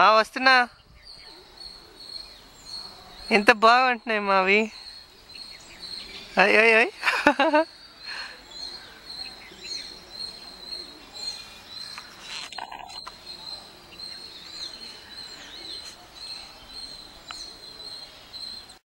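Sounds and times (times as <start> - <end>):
birds chirping: 0.0 - 18.8
faint outdoor hiss: 0.0 - 18.8.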